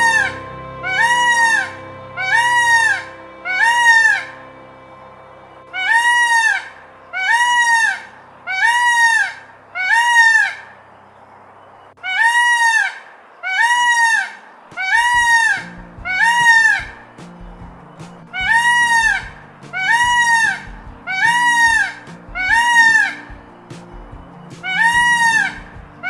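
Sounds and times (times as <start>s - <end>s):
faint background music: 0.0s - 12.5s, 14.6s - 26.0s.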